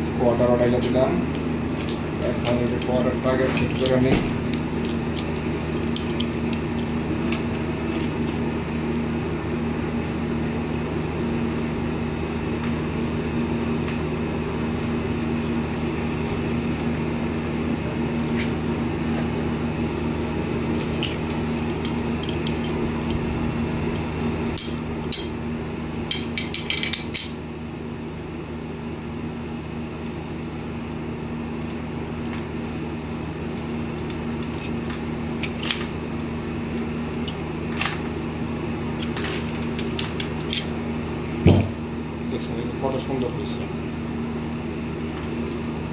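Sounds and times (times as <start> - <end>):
steady background hum: 0.0 - 45.9.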